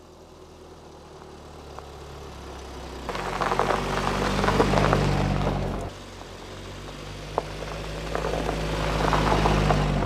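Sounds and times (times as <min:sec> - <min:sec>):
car engine hum: 0:00.0 - 0:10.0
tyres crunching over snow: 0:01.1 - 0:10.0.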